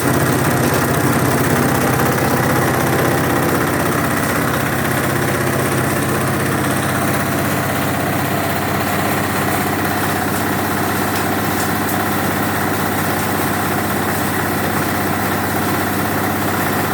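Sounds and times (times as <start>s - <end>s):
shredder machine droning: 0.0s - 16.9s.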